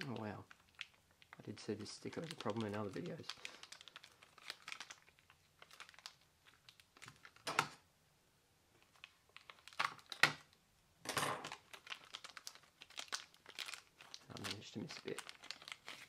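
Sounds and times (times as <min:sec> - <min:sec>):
plastic bag crinkling: 0:00.0 - 0:07.8, 0:08.8 - 0:10.6, 0:11.4 - 0:16.0.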